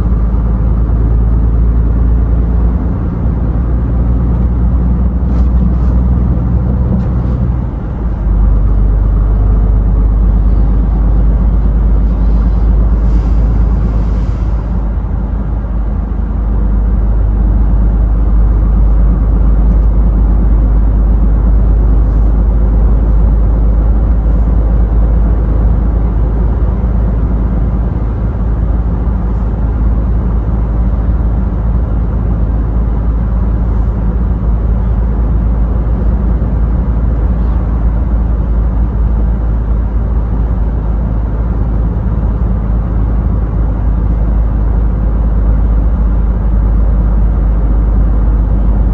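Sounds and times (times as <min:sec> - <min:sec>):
road and tyre noise: 0:00.0 - 0:48.9
truck engine drone: 0:00.0 - 0:48.9.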